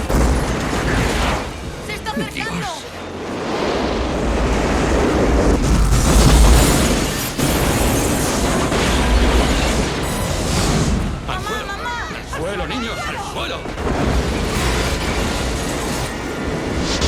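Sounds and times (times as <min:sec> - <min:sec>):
volcanic eruption rumbling and blasting: 0:00.0 - 0:12.6, 0:13.4 - 0:17.0.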